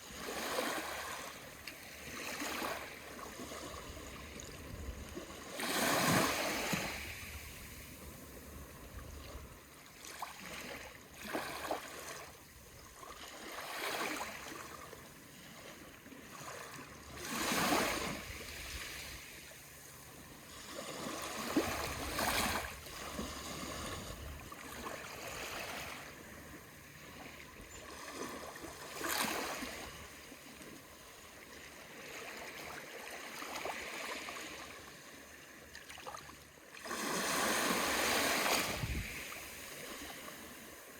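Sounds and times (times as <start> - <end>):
small waves washing in: 0.0 - 40.9.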